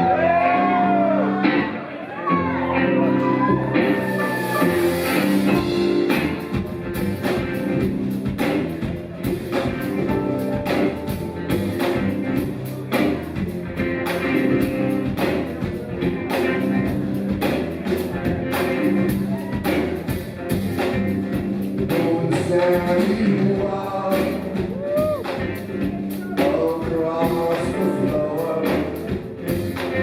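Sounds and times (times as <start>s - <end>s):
bass line: 0.0s - 30.0s
rock band playing: 0.0s - 30.0s
drumbeat: 4.9s - 30.0s.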